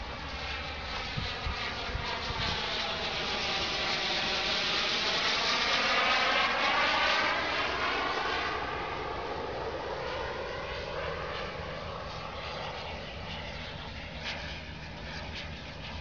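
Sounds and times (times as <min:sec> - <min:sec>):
model jet engine whine: 0:00.0 - 0:16.0.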